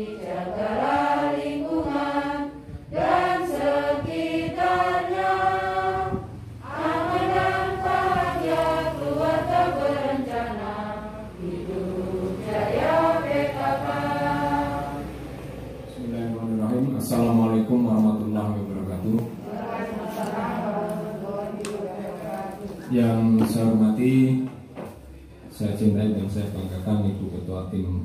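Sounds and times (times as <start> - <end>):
group of voices singing: 0.0 - 17.7, 18.9 - 24.2.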